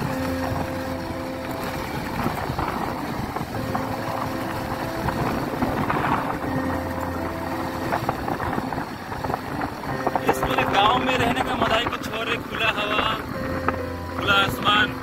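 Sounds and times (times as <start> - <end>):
motorcycle engine running: 0.0 - 15.0
wind rumbling on microphone: 0.0 - 15.0.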